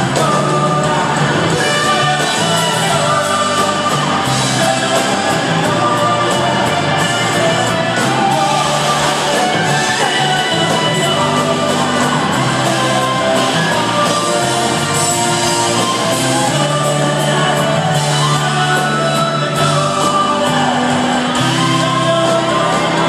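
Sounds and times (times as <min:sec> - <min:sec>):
live rock band playing: 0:00.0 - 0:23.0
person singing: 0:00.0 - 0:23.0.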